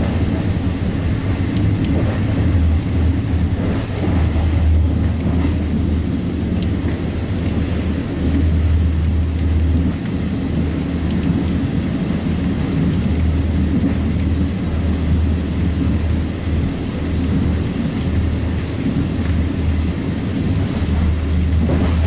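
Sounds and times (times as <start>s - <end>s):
train rumbling inside coach: 0.0s - 22.0s.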